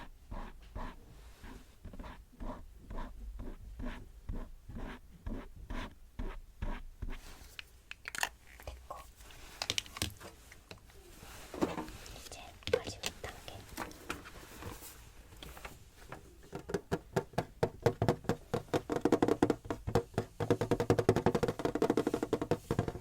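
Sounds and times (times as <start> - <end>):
soft rhythmic brushing strokes: 0.0 - 16.5, 18.4 - 23.0.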